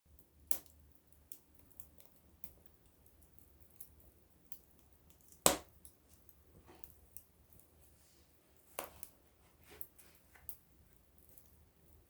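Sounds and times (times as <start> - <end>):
wood fire crackling: 0.1 - 12.0.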